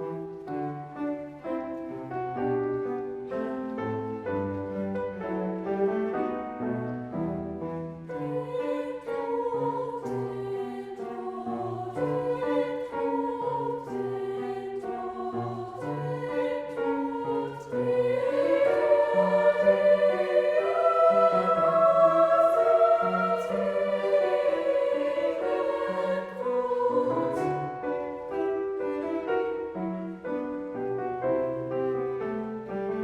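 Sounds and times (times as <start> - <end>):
choir singing: 0.0 - 33.0
instrumental accompaniment: 0.0 - 33.0.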